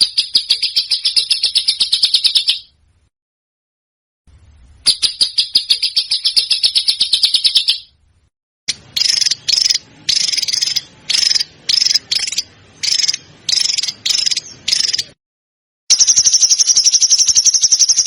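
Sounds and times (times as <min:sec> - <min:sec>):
high bird trill: 0:00.0 - 0:02.8, 0:04.8 - 0:08.0, 0:08.7 - 0:15.2, 0:15.9 - 0:18.0
rasping high bird chirps: 0:00.0 - 0:02.8, 0:04.8 - 0:08.0, 0:08.7 - 0:15.2, 0:15.9 - 0:18.0.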